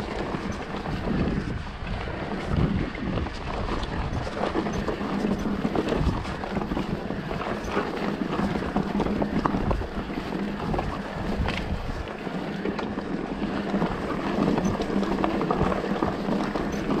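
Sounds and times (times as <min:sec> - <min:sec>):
tyres rushing on dirt and stones: 0:00.0 - 0:17.0.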